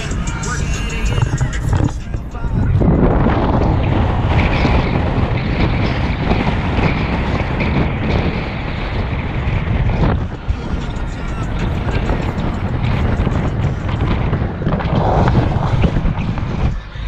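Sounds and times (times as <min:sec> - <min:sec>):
car engine: 0:00.0 - 0:17.0
road noise: 0:00.0 - 0:17.0
wind roaring over microphone: 0:00.0 - 0:17.0.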